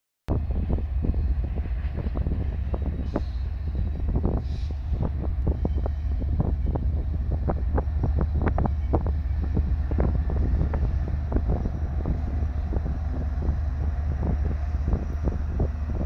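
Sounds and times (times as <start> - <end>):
diesel locomotives rumbling: 0.3 - 16.0
wind buffeting microphone: 0.3 - 16.0.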